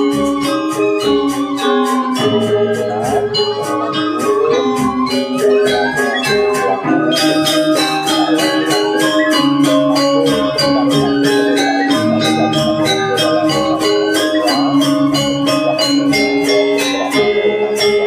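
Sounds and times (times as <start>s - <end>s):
gamelan ensemble playing: 0.0s - 18.0s.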